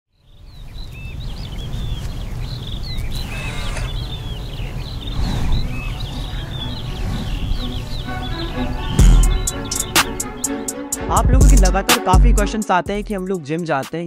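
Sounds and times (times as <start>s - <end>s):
birds chirping: 0.1s - 13.8s.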